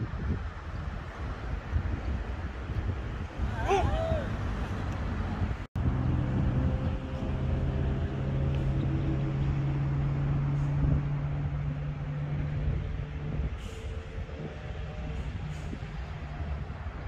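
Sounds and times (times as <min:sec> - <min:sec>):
low engine hum: 0:00.0 - 0:17.0
wind noise on microphone: 0:00.0 - 0:17.0.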